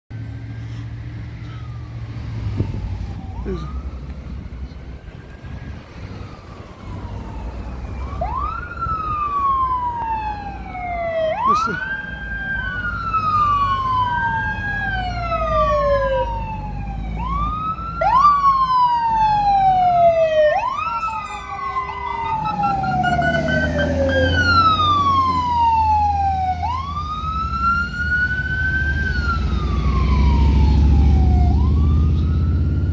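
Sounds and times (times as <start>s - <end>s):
truck engine rumble: 0.1s - 32.9s
emergency sirens wailing: 0.2s - 32.9s.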